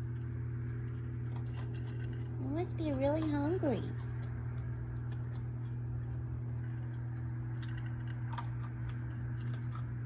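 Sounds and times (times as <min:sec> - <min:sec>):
raccoon chewing dry food: 0:00.0 - 0:10.0
steady low hum: 0:00.0 - 0:10.0.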